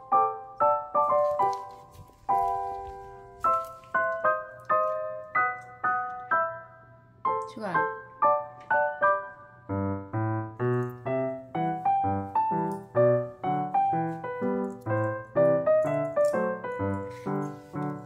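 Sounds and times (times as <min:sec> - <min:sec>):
piano melody: 0:00.0 - 0:18.0.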